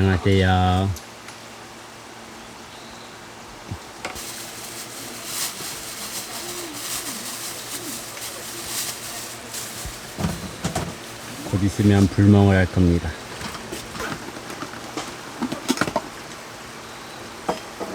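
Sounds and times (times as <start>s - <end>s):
rain falling in forest: 0.0s - 17.4s.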